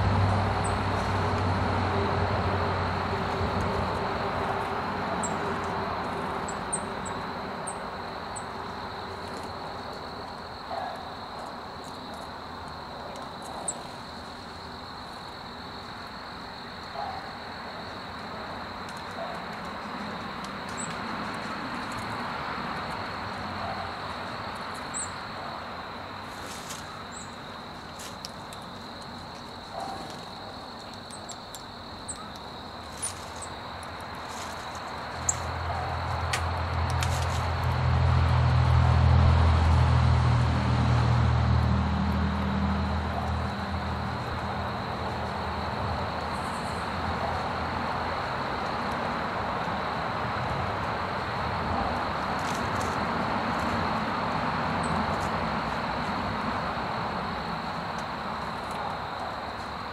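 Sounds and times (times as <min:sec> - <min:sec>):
vehicle low hum: 0:00.0 - 0:59.9.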